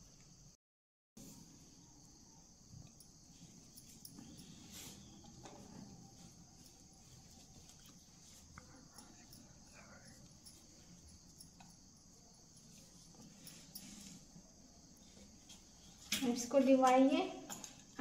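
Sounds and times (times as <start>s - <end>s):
crickets chirping: 0.0s - 0.6s, 1.2s - 18.0s.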